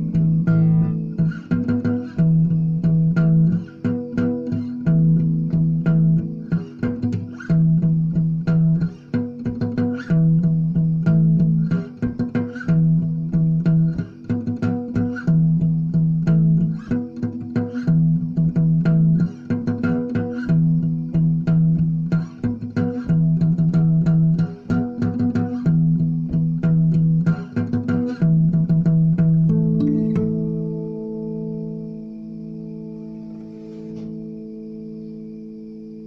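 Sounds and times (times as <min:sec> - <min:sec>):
guitar over bass: 0:00.0 - 0:36.0.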